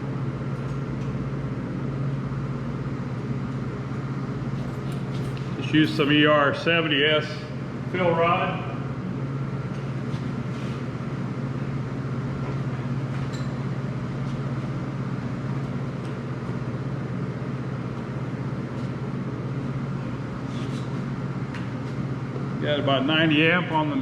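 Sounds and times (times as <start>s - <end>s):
welder electrical hum: 0.0s - 24.0s.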